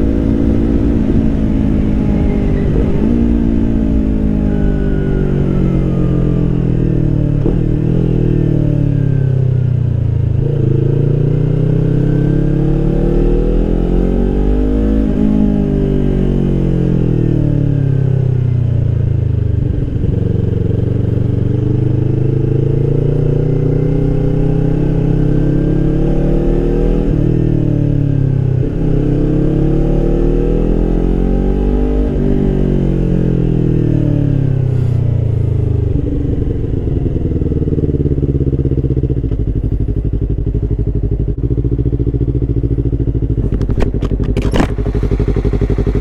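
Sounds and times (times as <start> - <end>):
motorcycle engine revving and idling: 0.0 - 46.0.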